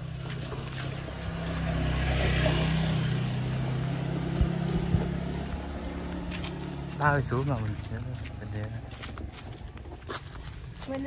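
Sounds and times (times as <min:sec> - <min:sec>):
motorbike engine passing: 0:00.0 - 0:10.0.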